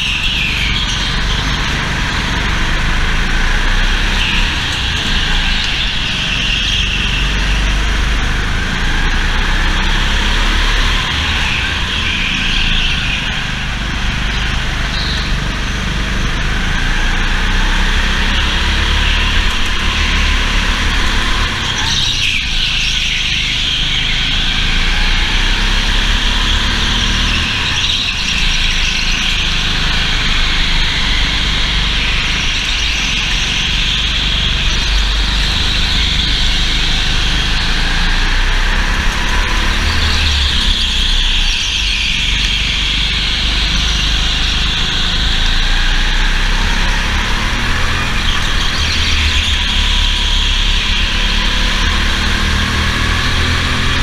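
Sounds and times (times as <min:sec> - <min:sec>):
go-kart engine whine: 0:00.0 - 0:54.0
heavy vibration rumble: 0:00.0 - 0:54.0.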